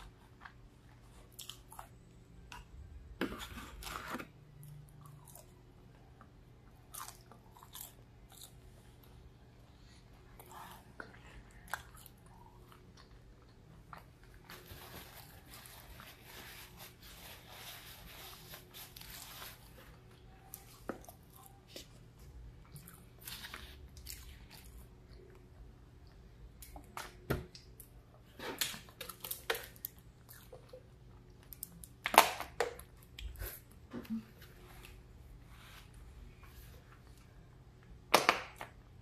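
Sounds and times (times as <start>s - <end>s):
chewing and crunching food: 0.0s - 3.1s, 3.7s - 17.0s, 17.6s - 26.8s, 27.6s - 35.0s
faint low hum: 0.0s - 39.0s.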